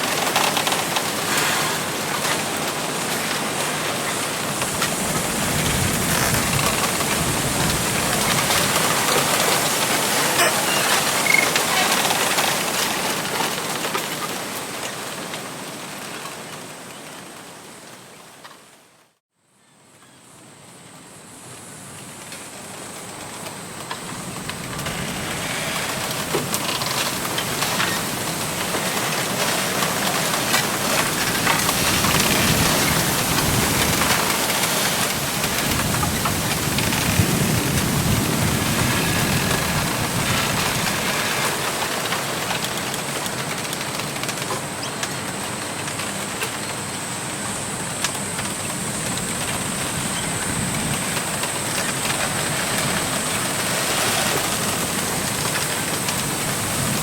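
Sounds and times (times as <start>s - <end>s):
wind rustling bamboo leaves: 0.0s - 57.0s.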